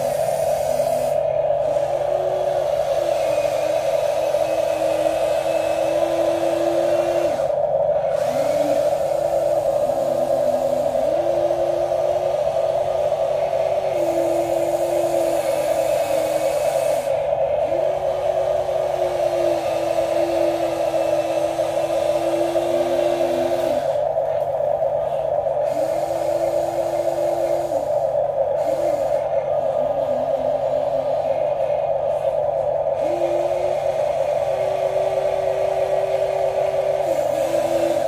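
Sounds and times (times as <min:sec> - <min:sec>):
motor whine: 0:00.0 - 0:38.0.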